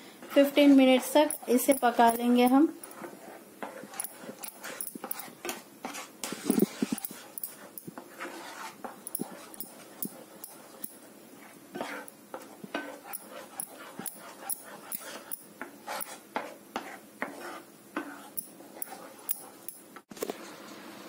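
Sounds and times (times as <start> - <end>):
spatula stirring thick puree: 0.1 - 20.1.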